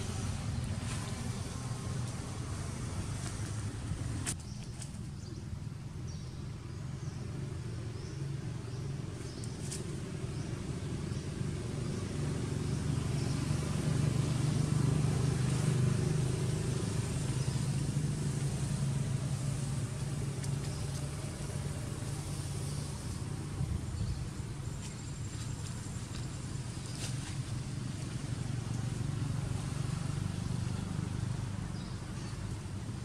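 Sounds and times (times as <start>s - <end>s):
motor vehicle engine drone: 0.0s - 4.4s, 5.0s - 33.0s.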